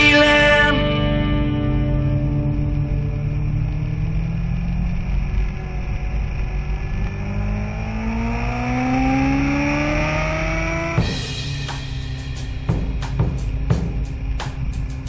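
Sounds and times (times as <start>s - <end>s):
motorcycle engine accelerating: 0.0s - 15.0s
wind and road noise: 2.1s - 15.0s.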